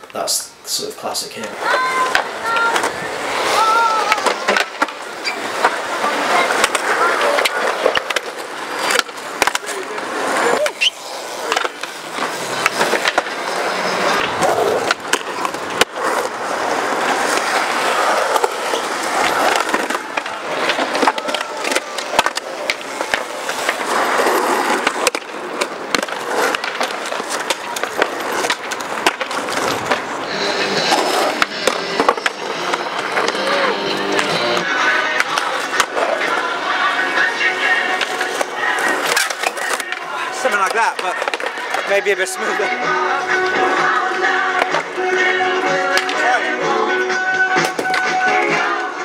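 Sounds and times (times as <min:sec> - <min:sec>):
skateboard wheels rumbling: 0:00.8 - 0:49.0
skateboard clacking on ground: 0:01.4 - 0:49.0.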